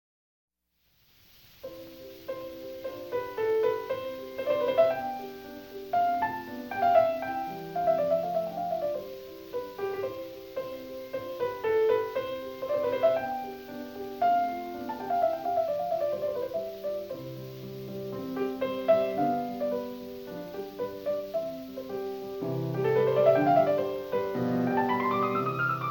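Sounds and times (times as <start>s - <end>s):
gentle piano music: 1.6s - 25.9s.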